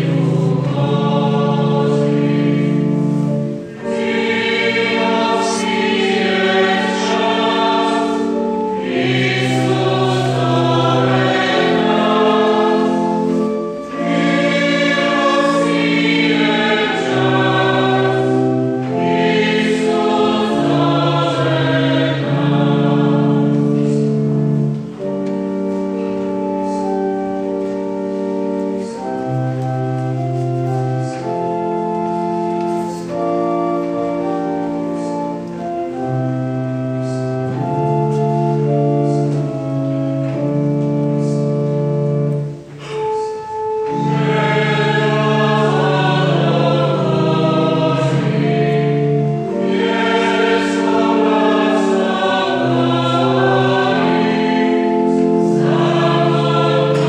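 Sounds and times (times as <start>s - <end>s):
choir singing a hymn: 0.0s - 57.0s
organ chords: 0.0s - 57.0s.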